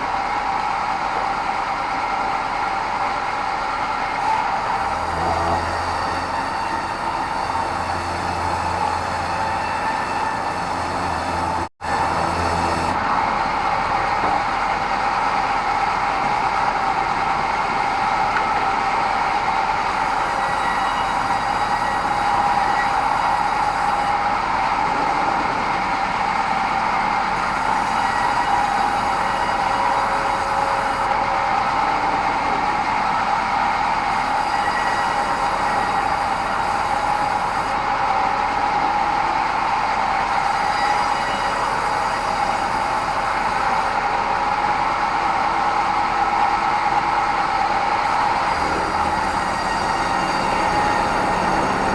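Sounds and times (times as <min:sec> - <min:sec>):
band saw running: 0:02.8 - 0:51.9.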